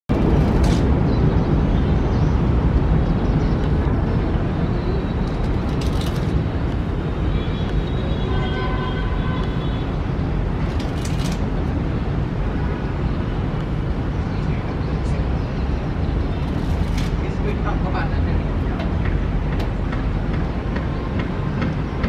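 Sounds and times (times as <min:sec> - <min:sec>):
outdoor rumble and hiss: 0:00.1 - 0:22.0.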